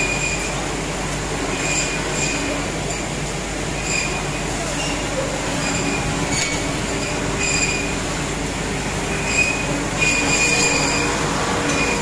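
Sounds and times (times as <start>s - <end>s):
woodworking machines running: 0.0s - 12.0s.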